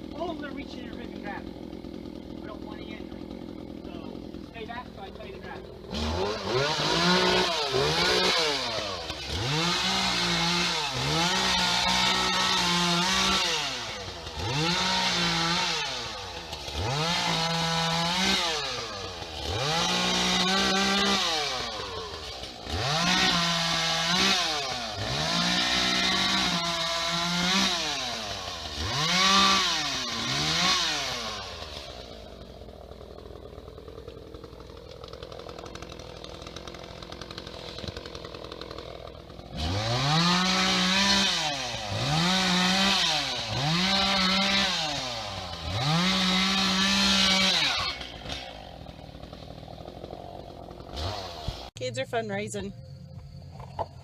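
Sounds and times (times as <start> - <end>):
chainsaw revving: 0.0 - 52.1.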